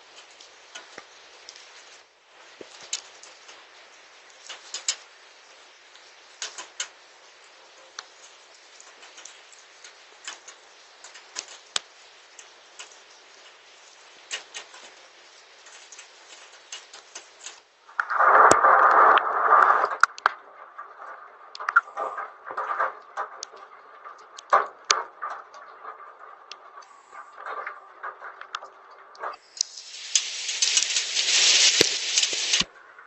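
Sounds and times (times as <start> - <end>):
hailstones ticking on hard surface: 0.0 - 17.7, 20.0 - 32.7
rain hissing: 0.0 - 32.7.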